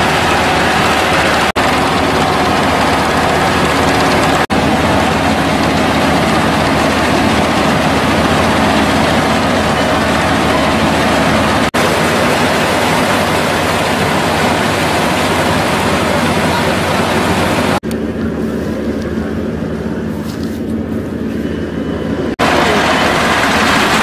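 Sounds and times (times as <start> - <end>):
combine harvester engine and machinery: 0.0 - 24.0.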